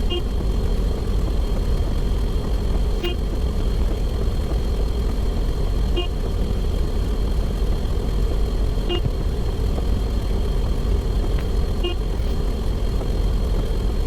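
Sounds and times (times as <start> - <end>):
low engine-like rumble: 0.0 - 14.0.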